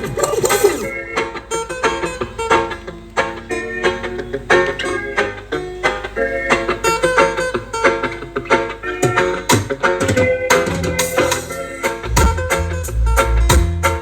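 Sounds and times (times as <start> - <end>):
instrumental music with plucked strings: 0.0 - 14.0.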